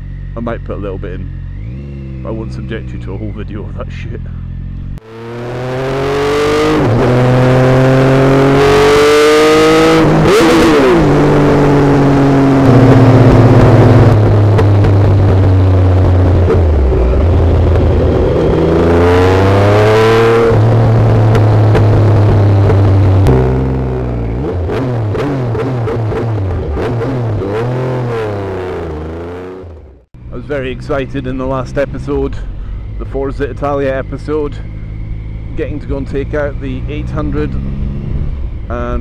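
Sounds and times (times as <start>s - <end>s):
motorcycle engine accelerating hard: 0.0s - 39.0s.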